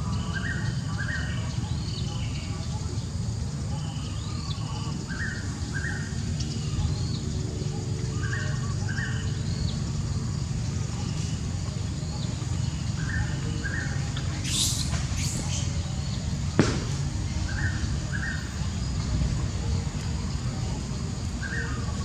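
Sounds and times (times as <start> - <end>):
birds calling: 0.0 - 22.0
low background rumble: 0.0 - 22.0.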